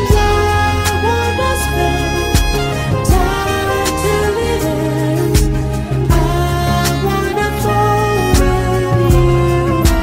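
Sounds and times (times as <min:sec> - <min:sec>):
slow song with gliding melody: 0:00.0 - 0:10.0.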